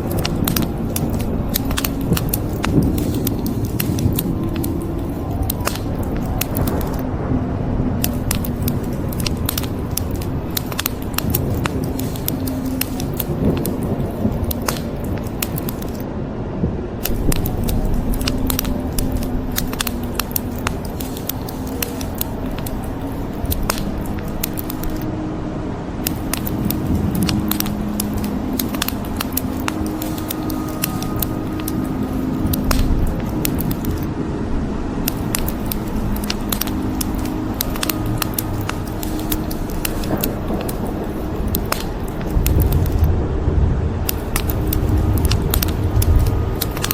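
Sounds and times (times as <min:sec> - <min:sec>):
wood fire crackling: 0:00.0 - 0:07.0, 0:08.0 - 0:16.1, 0:17.0 - 0:25.1, 0:25.9 - 0:43.2, 0:43.8 - 0:46.9
rain hissing: 0:00.0 - 0:07.2, 0:07.9 - 0:16.2, 0:17.0 - 0:25.2, 0:25.9 - 0:46.9.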